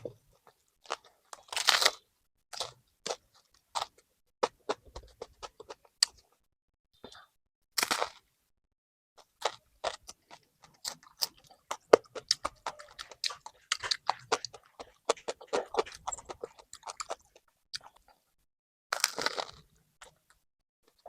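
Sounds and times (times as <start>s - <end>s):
chewing crusty bread: 0.0s - 6.4s, 7.8s - 8.3s, 9.2s - 21.0s.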